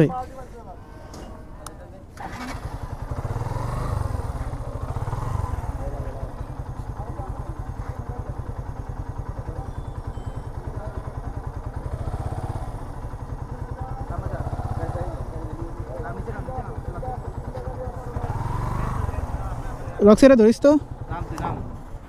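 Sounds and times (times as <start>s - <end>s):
engine running with low throb: 2.3s - 22.0s.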